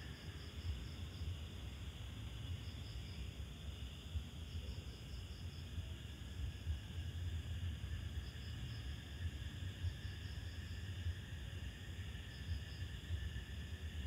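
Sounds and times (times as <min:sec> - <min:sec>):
low steady rumble: 0:00.0 - 0:14.0
night insects chirping: 0:00.0 - 0:14.0.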